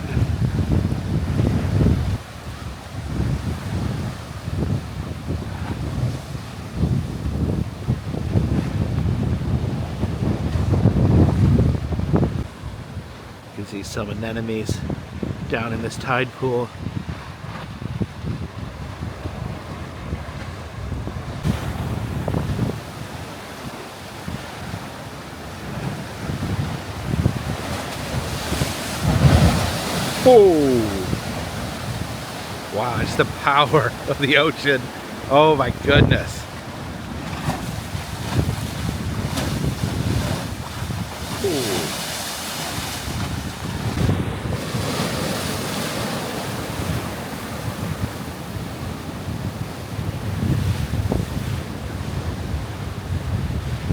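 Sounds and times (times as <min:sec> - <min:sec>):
wind gusting on microphone: 0:00.0 - 0:13.3, 0:14.7 - 0:15.5, 0:16.7 - 0:53.9
surf on rocky shoreline: 0:00.0 - 0:53.9.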